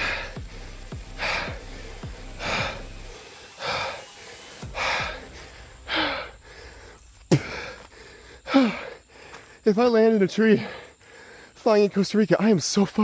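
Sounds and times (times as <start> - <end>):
person gasping breaths: 0.0 - 9.6, 10.6 - 11.6.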